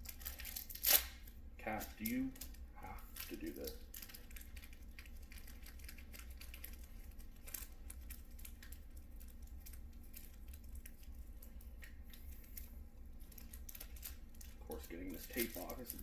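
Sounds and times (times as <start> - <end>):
low steady hum: 0.0 - 16.0
tape crinkling and tearing: 0.0 - 16.0.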